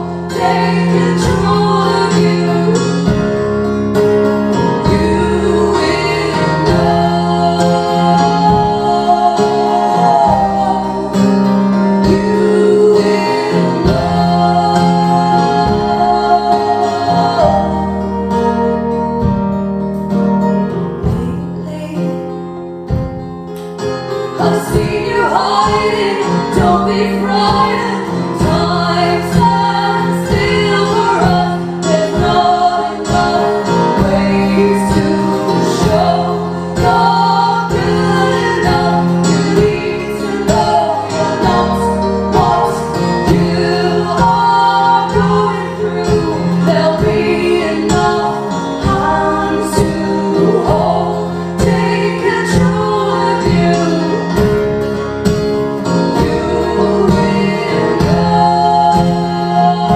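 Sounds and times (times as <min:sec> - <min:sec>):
women singing: 0:00.0 - 0:03.5, 0:04.5 - 0:19.5, 0:24.1 - 0:59.9
strummed acoustic guitar: 0:00.0 - 0:59.9.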